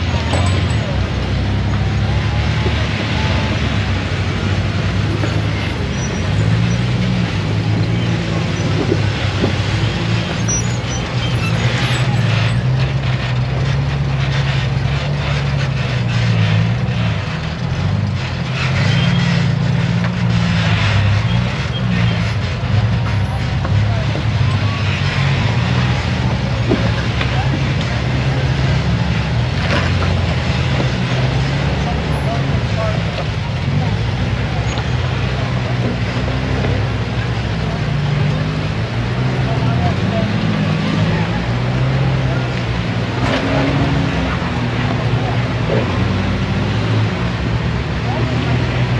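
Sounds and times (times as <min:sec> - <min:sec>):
engine revving unevenly: 0:00.0 - 0:48.9.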